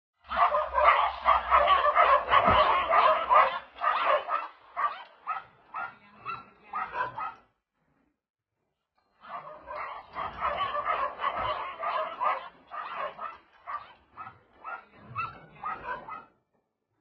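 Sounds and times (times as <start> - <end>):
dogs barking excitedly: 0.2 - 7.6, 9.2 - 16.5.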